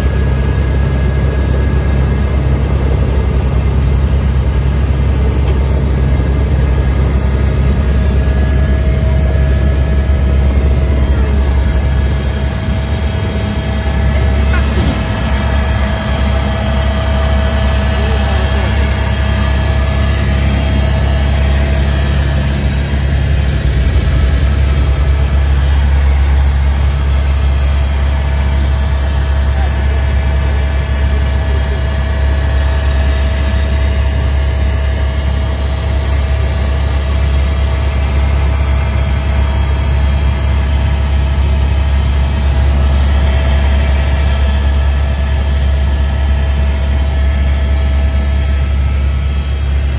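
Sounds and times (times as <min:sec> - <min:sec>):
helicopter drone: 0:00.0 - 0:49.9.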